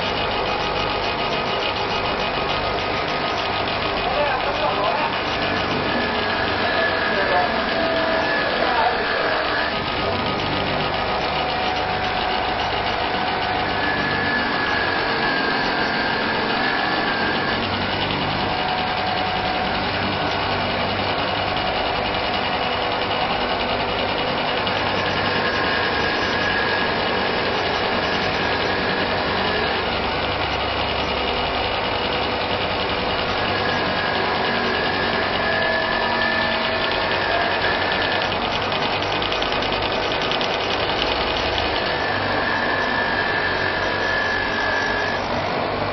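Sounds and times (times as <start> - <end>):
laser engraver hum and hiss: 0.0 - 45.9
high whine: 3.0 - 45.9.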